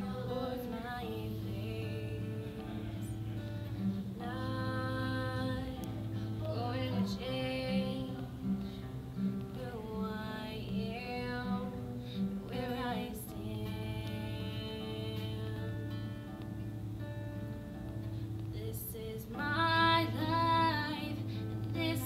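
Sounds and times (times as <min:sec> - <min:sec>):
woman singing: 0:00.0 - 0:16.6, 0:18.5 - 0:22.0
acoustic guitar strumming: 0:00.0 - 0:22.0.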